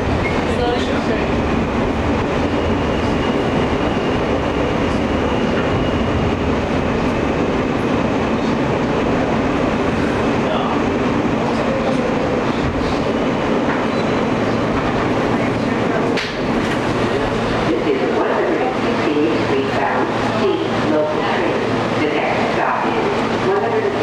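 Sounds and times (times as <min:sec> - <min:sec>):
subway train wheels rumbling on rails: 0:00.0 - 0:24.0.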